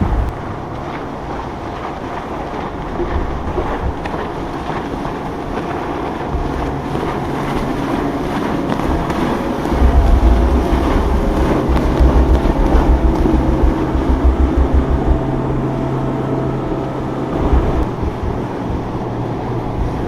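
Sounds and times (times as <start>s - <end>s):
boat engine droning: 0.0s - 20.0s
surf: 0.0s - 20.0s
wind buffeting microphone: 0.0s - 20.0s.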